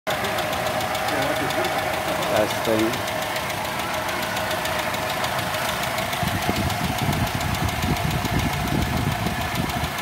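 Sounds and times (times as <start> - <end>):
car engine idling with ticking: 0.1 - 10.0.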